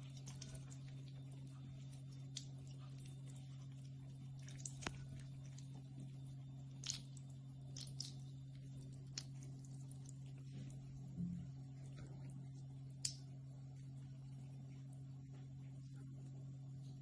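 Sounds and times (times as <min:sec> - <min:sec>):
small drips and splashes: 0:00.0 - 0:16.0
steady low hum: 0:00.0 - 0:17.0.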